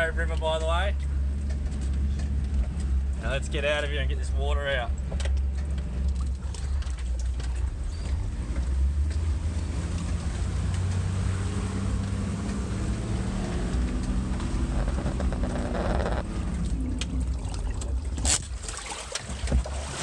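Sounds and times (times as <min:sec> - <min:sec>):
truck engine rumbling under load: 0:00.0 - 0:20.0
water washing around truck: 0:00.0 - 0:20.0.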